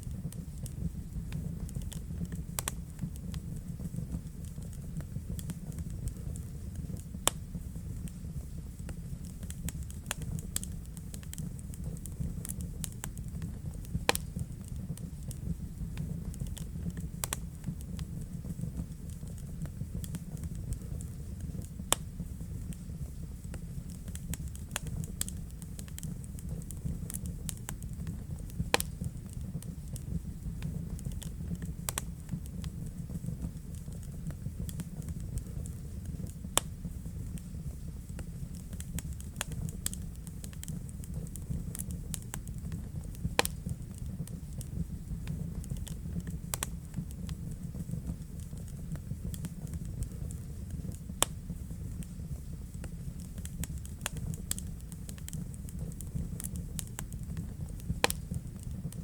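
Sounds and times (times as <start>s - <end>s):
fire rumbling: 0.0s - 59.0s
wood crackling and popping: 0.0s - 59.0s.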